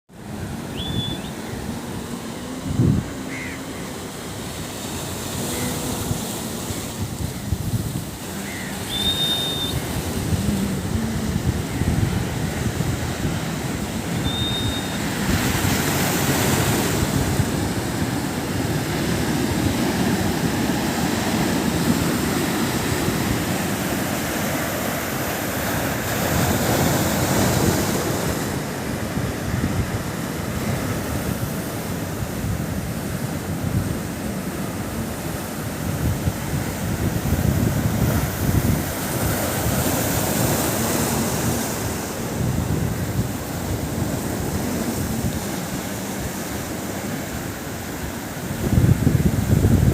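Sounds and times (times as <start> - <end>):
waves breaking on beach: 0.1 - 49.9
wind buffeting microphone: 4.6 - 49.9.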